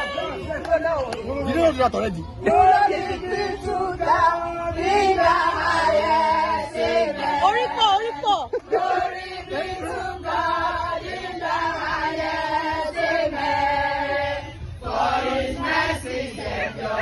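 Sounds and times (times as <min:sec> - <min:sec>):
group singing a praise chorus: 0:02.4 - 0:17.0.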